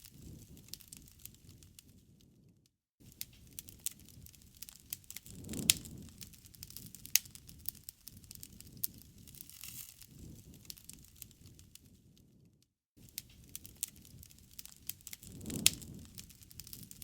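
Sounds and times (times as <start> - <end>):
fireplace fire crackling: 0.0 - 17.0
low rush of flame: 0.0 - 17.0
sharp pops of fire: 0.0 - 17.0.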